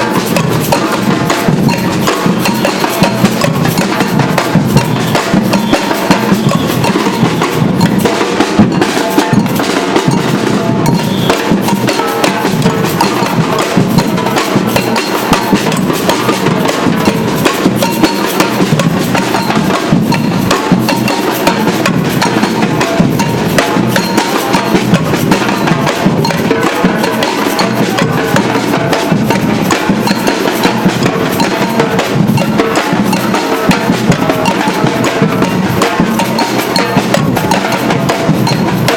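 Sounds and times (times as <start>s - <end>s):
drum band playing: 0.0s - 38.9s
snare drums rattling: 0.0s - 38.9s.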